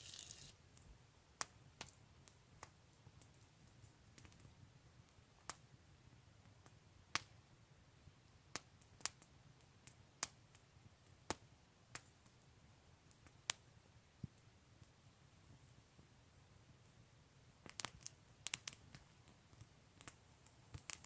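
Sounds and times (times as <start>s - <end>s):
campfire crackling and popping: 0.0s - 5.8s, 6.4s - 7.4s, 8.5s - 15.6s, 17.6s - 21.0s.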